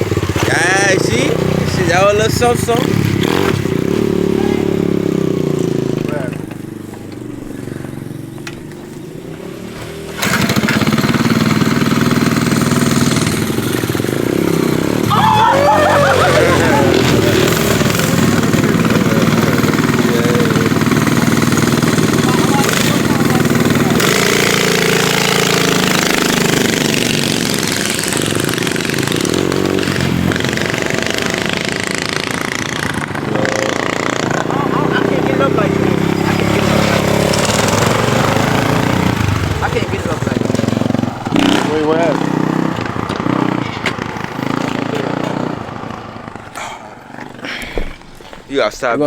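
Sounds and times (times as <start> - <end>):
dirt bike engine revving: 0.0 - 48.4.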